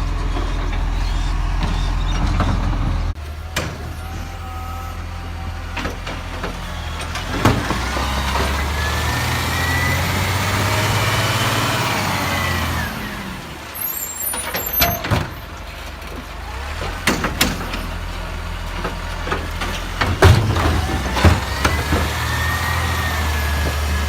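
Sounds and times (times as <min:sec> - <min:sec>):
garbage truck engine running: 0:00.0 - 0:24.0.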